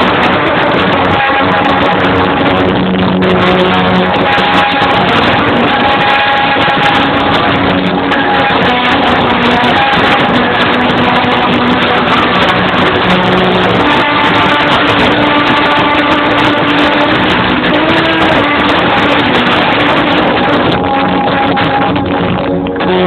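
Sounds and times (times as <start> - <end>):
distorted circus music: 0.0 - 23.0.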